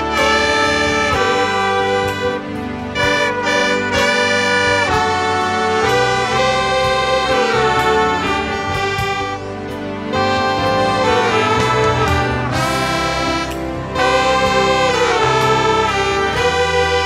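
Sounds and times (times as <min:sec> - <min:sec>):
low bass line: 0:00.0 - 0:17.0
saxophones and trumpets playing: 0:00.0 - 0:17.0.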